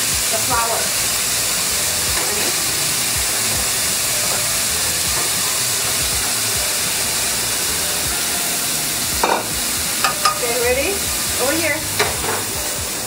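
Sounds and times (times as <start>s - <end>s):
meat and onions sizzling in a pan: 0.0s - 13.0s.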